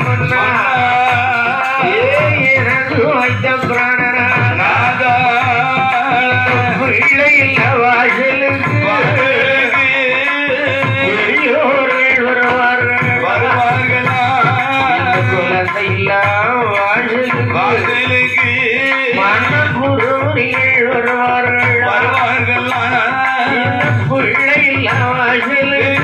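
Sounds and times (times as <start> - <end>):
frame drum beat: 0.0 - 26.0.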